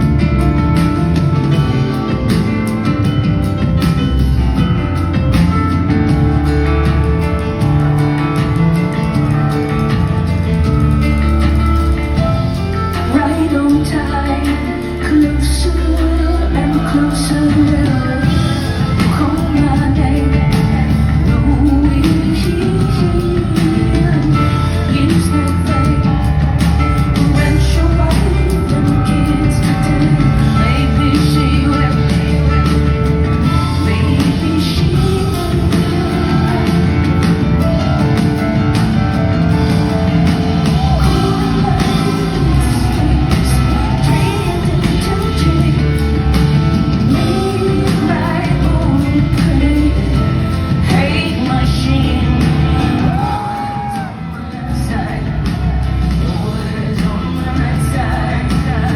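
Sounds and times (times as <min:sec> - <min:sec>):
live rock band playing: 0:00.0 - 0:58.9
woman singing: 0:08.4 - 0:58.9.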